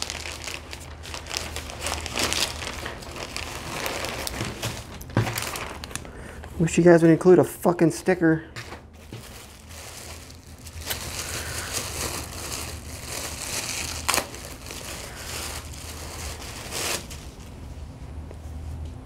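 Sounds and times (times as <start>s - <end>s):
packaging crinkling: 0.0s - 6.6s, 8.6s - 17.6s.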